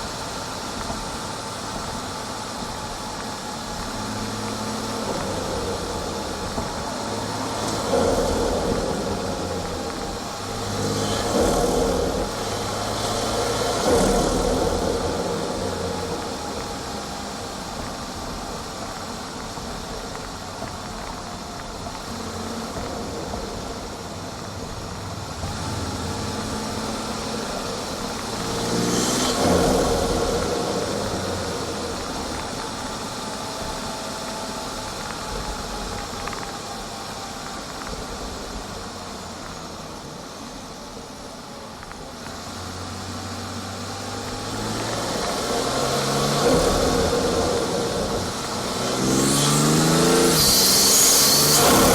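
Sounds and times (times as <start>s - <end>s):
car engine intake drone: 0.0s - 51.9s.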